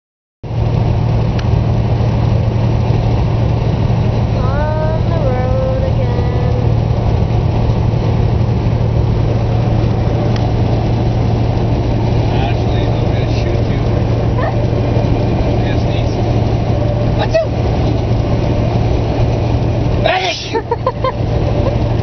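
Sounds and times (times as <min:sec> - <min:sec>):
road and engine noise in car: 0:00.4 - 0:22.0.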